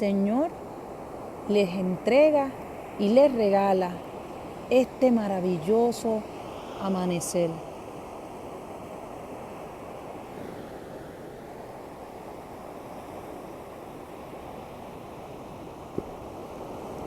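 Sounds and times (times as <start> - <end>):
waves breaking on shore: 0.0 - 17.0.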